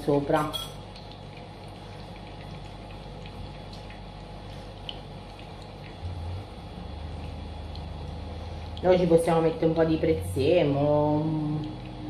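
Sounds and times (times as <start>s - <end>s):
low kitchen hum: 0.0s - 12.0s
deeper hum: 2.1s - 12.0s.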